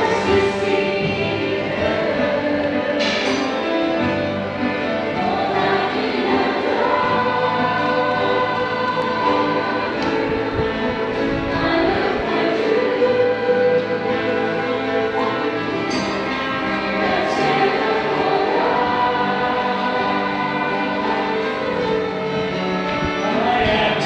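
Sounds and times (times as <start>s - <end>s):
choir singing: 0.0s - 24.0s
orchestral accompaniment: 0.0s - 24.0s.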